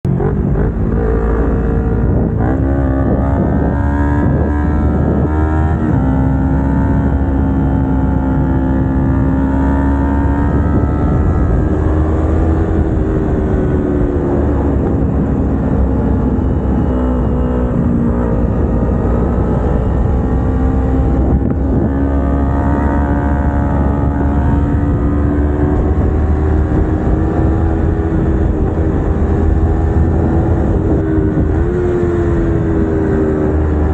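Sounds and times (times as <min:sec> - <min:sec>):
motorcycle engine running: 0:00.0 - 0:33.9
wind rushing on microphone: 0:00.0 - 0:33.9.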